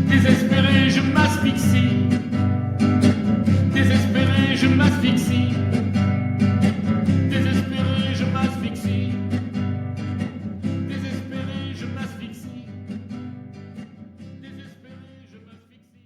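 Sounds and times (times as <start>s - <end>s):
guitar-led music: 0.0s - 15.2s.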